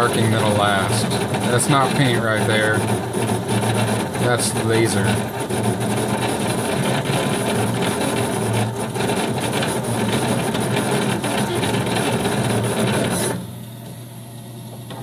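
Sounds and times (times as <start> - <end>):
laser engraver buzzing: 0.0 - 13.6.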